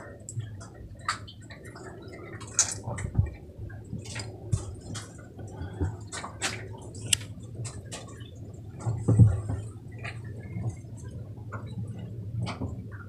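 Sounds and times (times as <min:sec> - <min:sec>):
water sloshing and dripping: 0:00.0 - 0:13.0.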